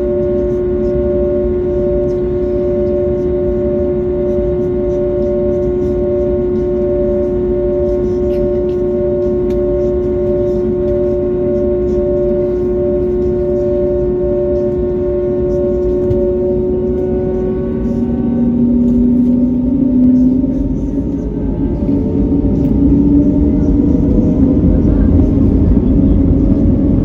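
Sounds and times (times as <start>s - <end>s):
airplane engines humming in cabin: 0.0s - 27.0s.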